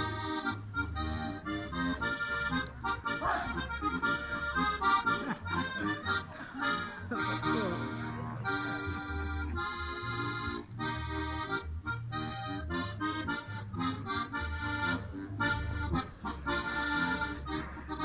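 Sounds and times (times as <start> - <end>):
accordion folk-dance tune: 0.0 - 18.0.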